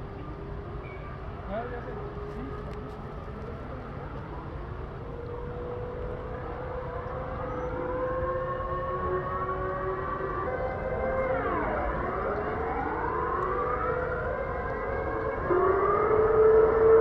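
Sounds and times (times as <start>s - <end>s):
air-raid sirens rising in pitch: 0.0s - 17.0s.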